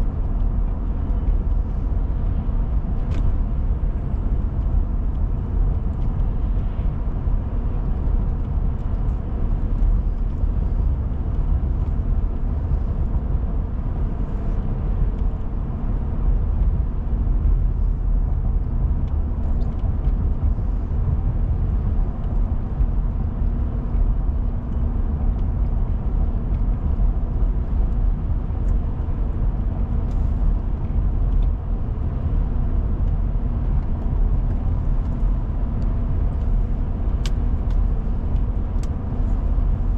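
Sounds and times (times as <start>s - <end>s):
car road rumble from inside: 0.0s - 39.9s.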